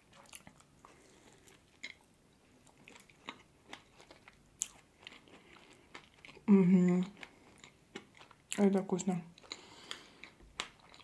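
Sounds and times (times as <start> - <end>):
close-miked chewing: 0.0 - 11.0.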